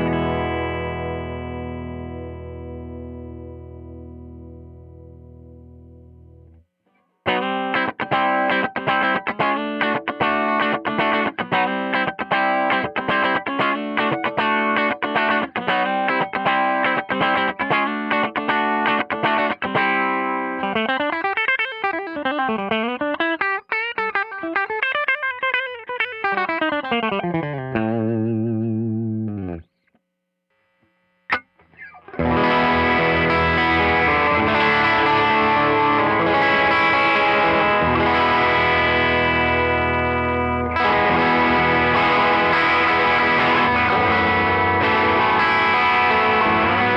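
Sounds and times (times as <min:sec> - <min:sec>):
electric guitar playing: 0:00.0 - 0:06.6, 0:07.2 - 0:29.7, 0:31.3 - 0:46.9.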